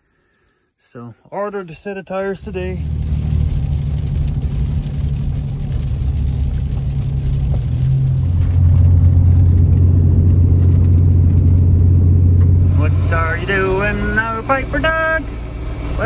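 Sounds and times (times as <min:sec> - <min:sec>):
truck engine and road drone: 0:02.3 - 0:16.0.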